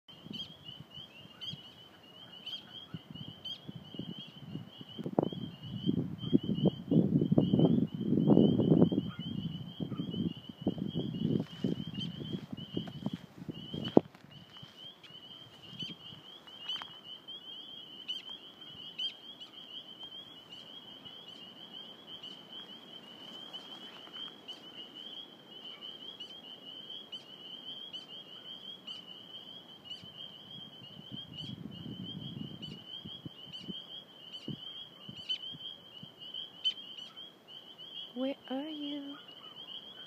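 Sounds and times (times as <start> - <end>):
frogs peeping chorus: 0.1 - 40.0.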